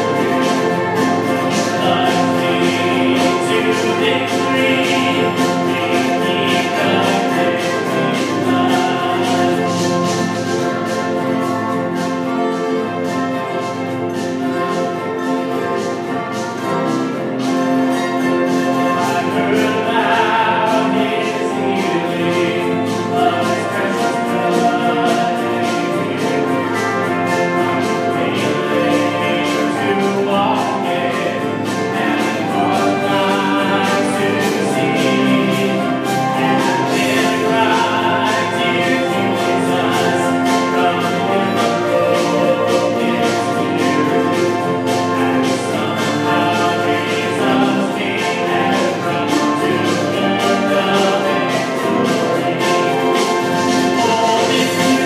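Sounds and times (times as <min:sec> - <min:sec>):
bluegrass band playing hymn: 0:00.0 - 0:55.0.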